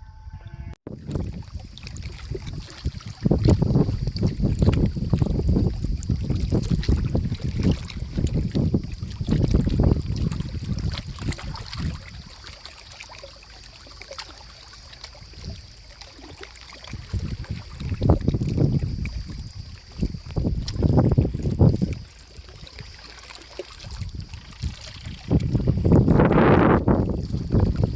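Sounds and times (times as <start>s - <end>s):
wind buffeting microphone: 0.0s - 13.0s, 15.1s - 23.0s, 23.7s - 27.9s.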